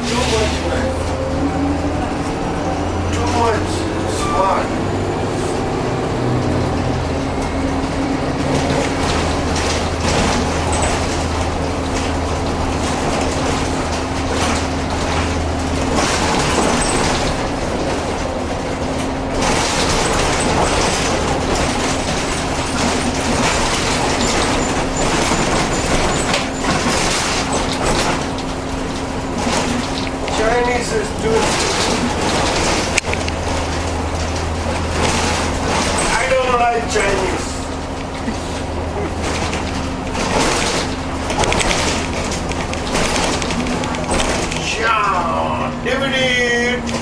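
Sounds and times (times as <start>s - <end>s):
bus engine drone: 0.0s - 47.0s
road noise: 0.0s - 47.0s
constant hum: 5.4s - 47.0s
rattles: 6.4s - 45.4s.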